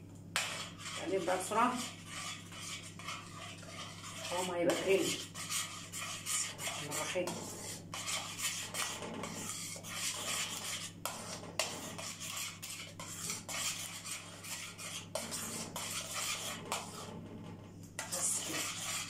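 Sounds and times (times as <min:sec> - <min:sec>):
steady low hum: 0:00.0 - 0:19.0
metal spoon scraping a pot: 0:00.4 - 0:17.2, 0:18.0 - 0:19.0.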